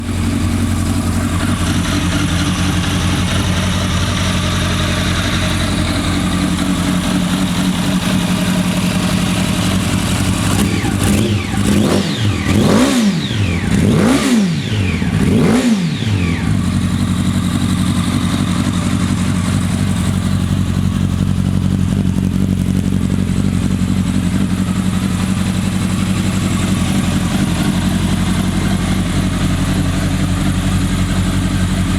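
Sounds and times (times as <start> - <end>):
motorcycle engine idling and revving: 0.0 - 31.9.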